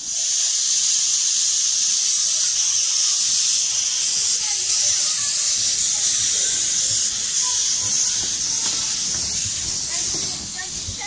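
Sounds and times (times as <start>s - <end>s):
steam hissing loudly: 0.0s - 11.0s.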